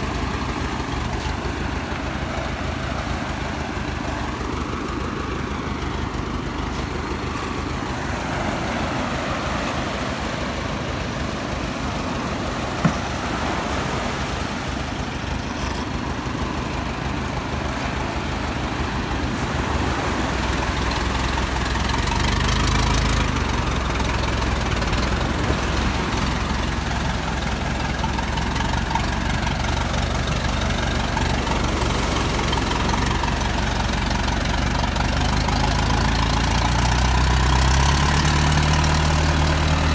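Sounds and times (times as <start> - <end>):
surf washing: 0.0 - 39.9
tractor engine running: 0.0 - 39.9.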